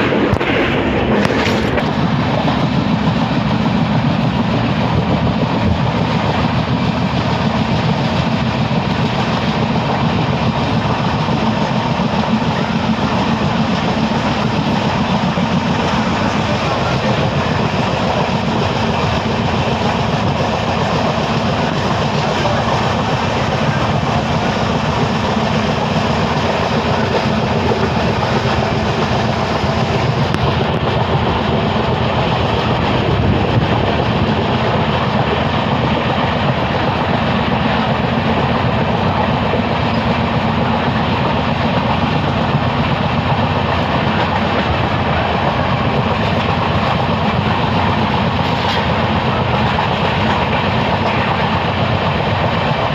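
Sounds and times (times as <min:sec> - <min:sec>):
train running on rails: 0:00.0 - 0:52.9.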